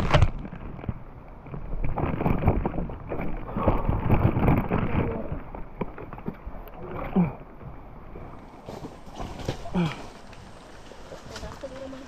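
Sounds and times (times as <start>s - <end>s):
low wind rumble: 0.0s - 12.0s.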